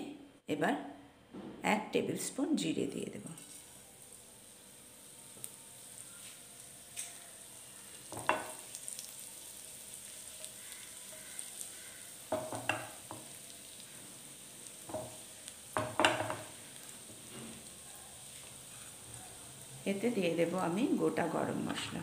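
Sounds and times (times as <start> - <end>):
seeds sizzling in hot oil: 3.4 - 22.0.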